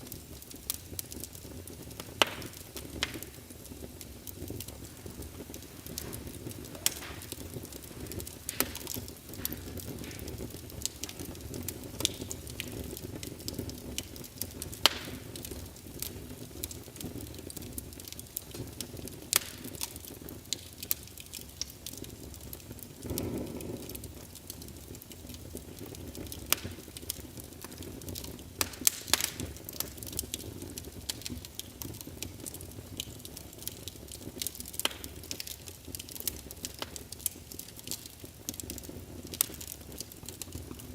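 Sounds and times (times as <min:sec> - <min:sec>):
fireplace fire crackling: 0:00.0 - 0:40.9.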